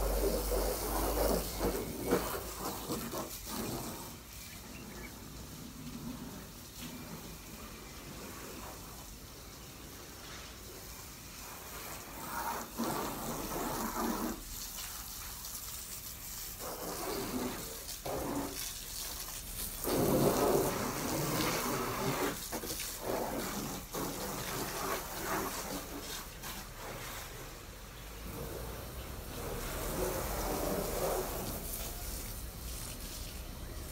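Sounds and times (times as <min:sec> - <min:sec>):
hose water spraying on car: 0:00.0 - 0:33.9.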